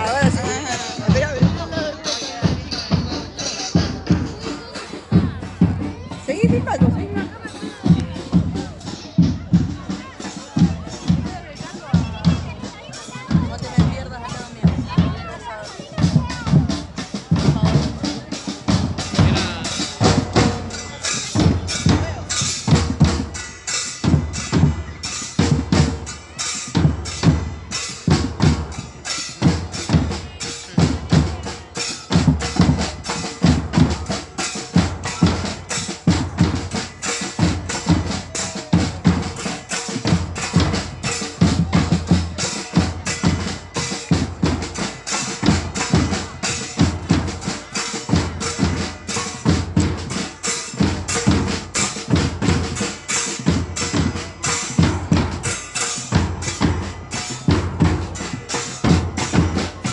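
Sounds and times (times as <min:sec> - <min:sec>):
drums playing driving beat: 0:00.0 - 0:59.9.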